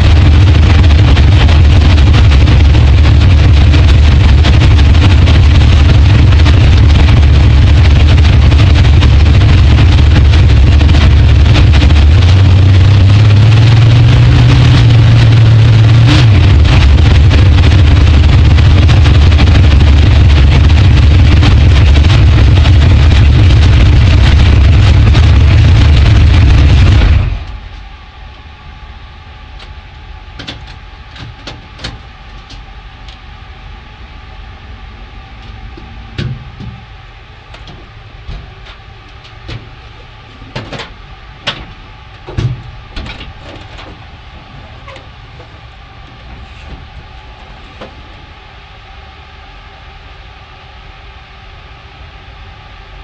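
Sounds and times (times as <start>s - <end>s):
loud car engine running: 0.0s - 28.2s, 29.2s - 50.6s
faint hum: 0.0s - 53.0s.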